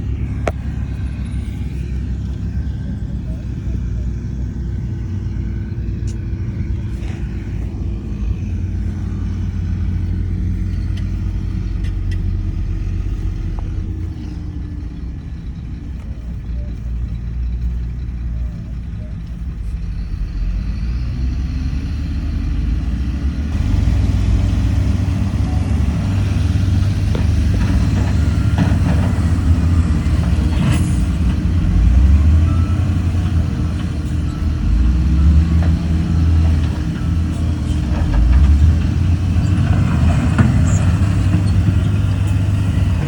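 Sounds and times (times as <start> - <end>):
engine revving: 0.0 - 43.0
heavy diesel engines running: 0.0 - 43.0.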